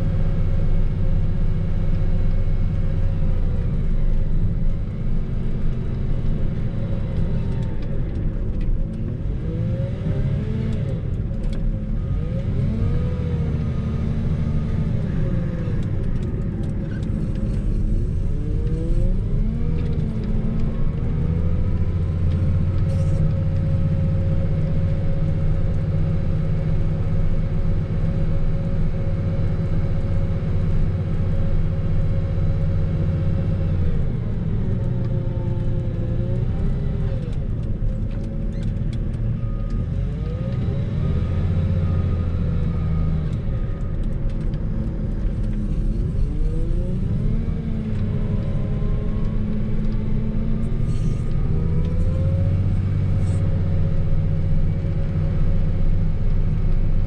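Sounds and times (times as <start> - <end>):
snow plow engine running: 0.0 - 57.0.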